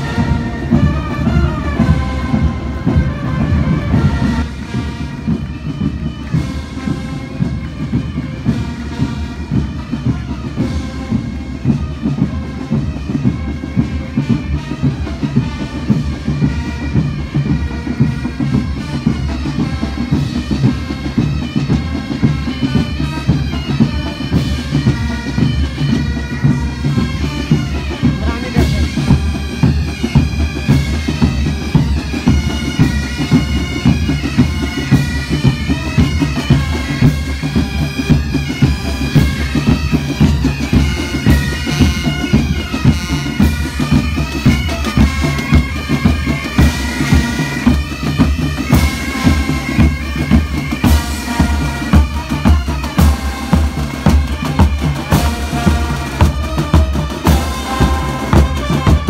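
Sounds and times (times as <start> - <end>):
bagpipes playing a melody: 0.0 - 59.0
regular drumbeat: 0.0 - 59.0.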